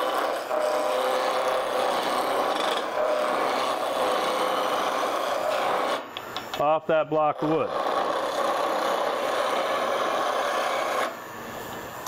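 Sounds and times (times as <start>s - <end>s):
gouge cutting spinning wood: 0.0s - 6.1s, 7.2s - 11.2s
lathe motor whine: 0.0s - 12.0s.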